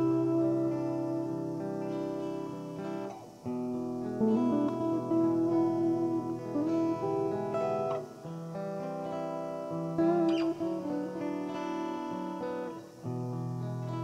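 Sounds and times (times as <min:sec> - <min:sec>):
guitar-led theme music: 0:00.0 - 0:14.0.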